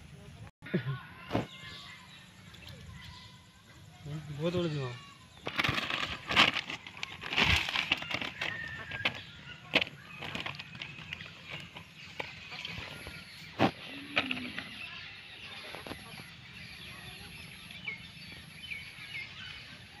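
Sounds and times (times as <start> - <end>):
birds calling: 1.2 - 20.0.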